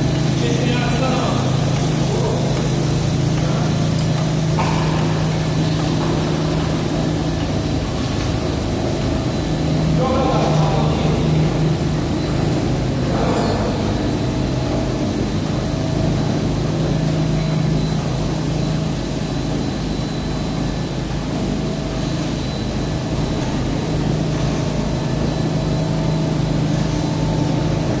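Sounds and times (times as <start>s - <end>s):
machine low mechanical hum: 0.0s - 28.0s.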